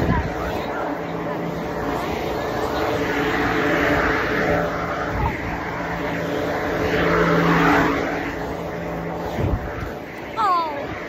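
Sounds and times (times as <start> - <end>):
low motor hum: 0.0 - 11.0
vehicle passing: 0.0 - 11.0.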